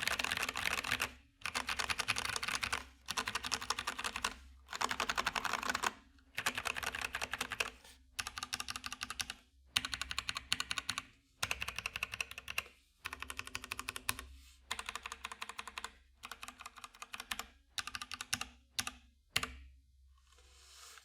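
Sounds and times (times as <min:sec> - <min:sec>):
fast keyboard typing: 0:00.0 - 0:19.5.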